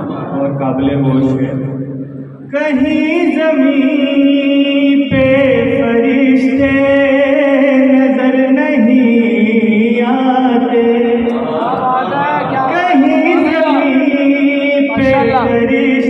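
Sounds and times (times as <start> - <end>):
man chanting a lament: 2.5 - 16.0.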